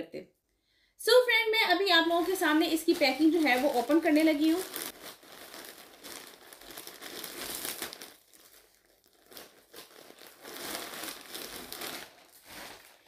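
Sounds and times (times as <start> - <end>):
plastic packaging crinkling: 1.7 - 13.0.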